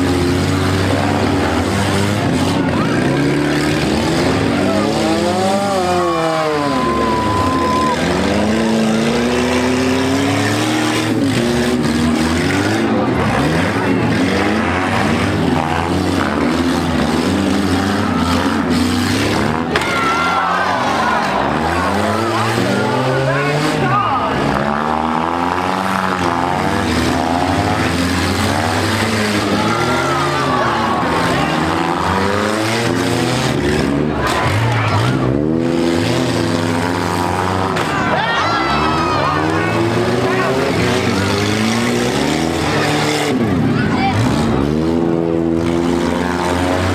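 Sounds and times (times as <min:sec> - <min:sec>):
small car engines revving: 0:00.0 - 0:46.9.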